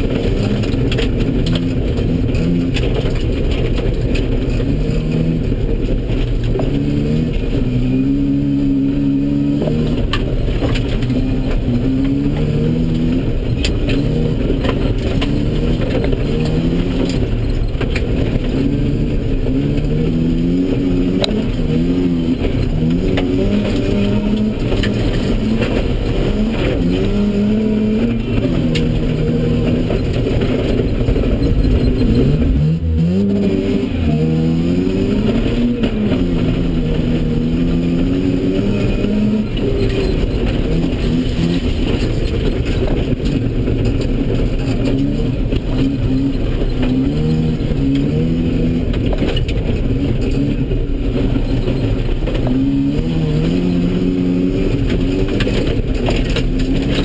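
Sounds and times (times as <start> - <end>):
rotary engine revving: 0.0 - 57.0
tyres on loose dirt: 0.0 - 57.0.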